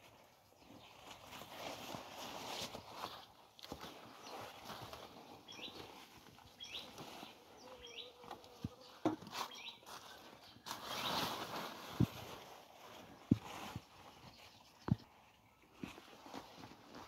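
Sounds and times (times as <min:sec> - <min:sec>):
leaves rustling: 0:00.0 - 0:17.0.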